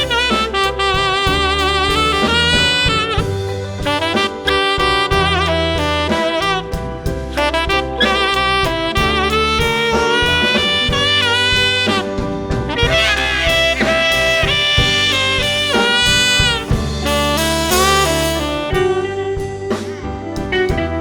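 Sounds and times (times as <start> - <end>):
band playing: 0.0 - 21.0
bass line: 0.0 - 21.0
saxophone solo: 0.0 - 21.0.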